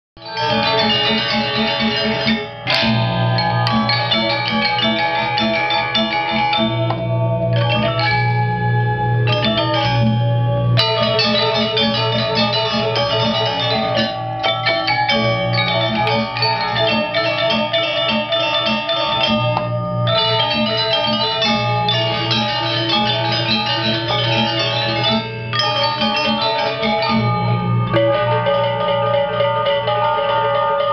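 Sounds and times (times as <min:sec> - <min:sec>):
gamelan orchestra playing: 0:00.2 - 0:30.9.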